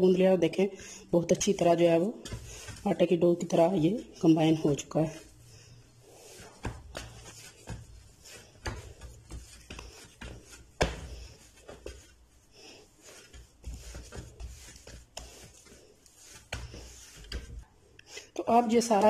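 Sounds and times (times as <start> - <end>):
hands kneading dough: 0.0 - 19.0.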